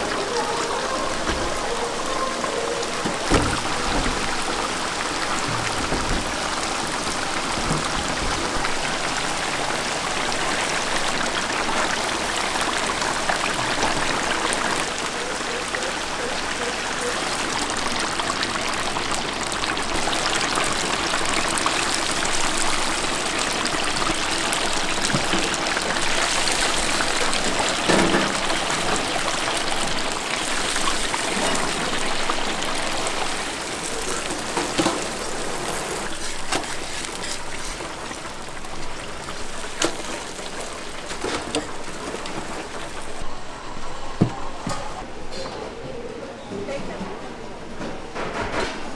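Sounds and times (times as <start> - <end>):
hot oil sizzling in deep fryer: 0.0 - 43.3.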